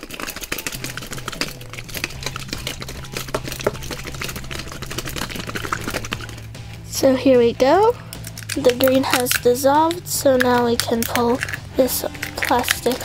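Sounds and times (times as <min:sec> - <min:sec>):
plastic container rattling with water: 0:00.0 - 0:06.6, 0:08.1 - 0:13.0.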